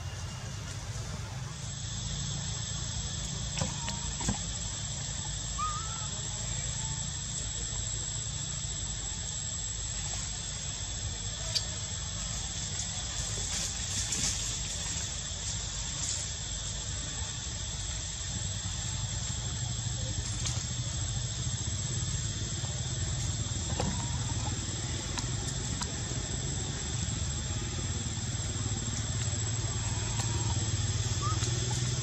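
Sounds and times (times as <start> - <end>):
constant hiss: 0.0 - 32.0
low engine-like drone: 0.0 - 32.0.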